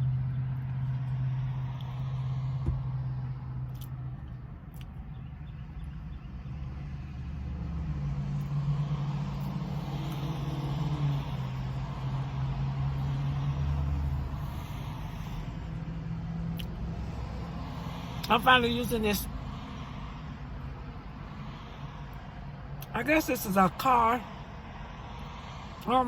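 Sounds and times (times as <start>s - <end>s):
passing traffic: 0.0s - 26.0s
vehicle engines humming: 0.0s - 26.0s.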